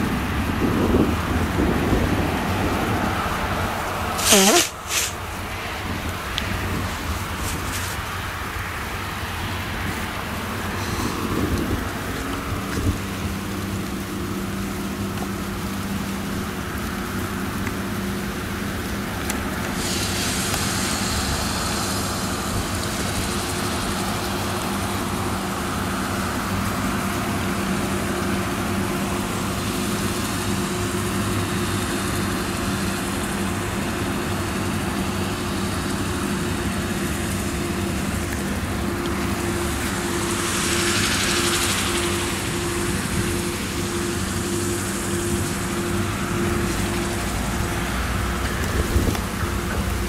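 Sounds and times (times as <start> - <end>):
combine harvester engine running: 0.0 - 50.0
grain pouring into trailer: 0.0 - 50.0.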